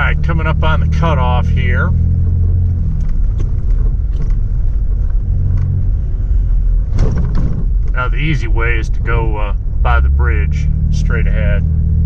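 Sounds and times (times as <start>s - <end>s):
low road rumble: 0.0s - 12.0s
pickup engine hum: 0.0s - 12.0s.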